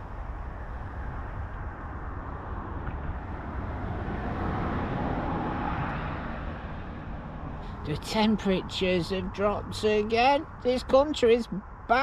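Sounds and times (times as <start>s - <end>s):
vehicle passing: 0.0s - 10.7s
road traffic passing: 0.0s - 12.0s.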